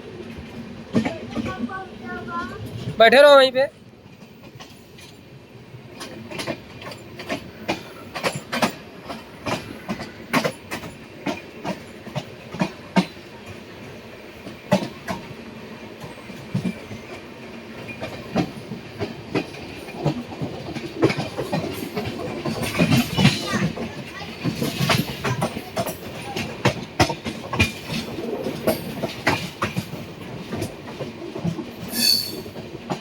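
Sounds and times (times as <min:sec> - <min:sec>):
train rumble: 0:00.0 - 0:33.0
train wheels clacking over rail joints: 0:00.2 - 0:33.0.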